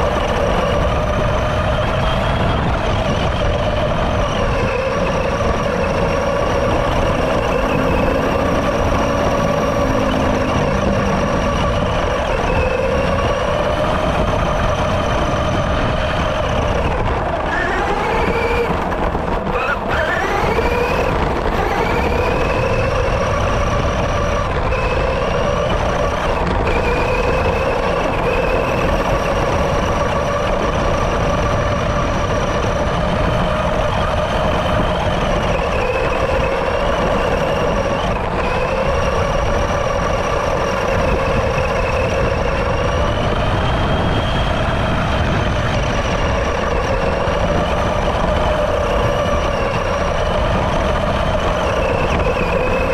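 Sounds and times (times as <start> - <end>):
low chassis rumble: 0.0 - 52.9
toy truck electric motor whining: 0.0 - 52.9.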